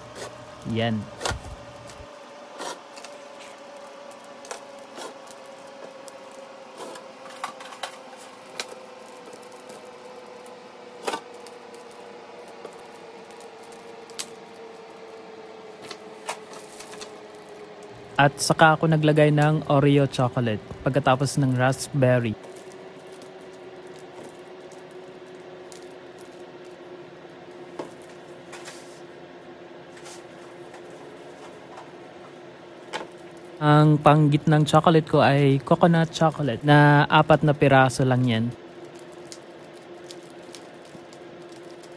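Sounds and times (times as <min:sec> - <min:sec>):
cellophane crinkling: 0:00.0 - 0:28.6, 0:30.1 - 0:41.9
faint hum: 0:00.0 - 0:41.9.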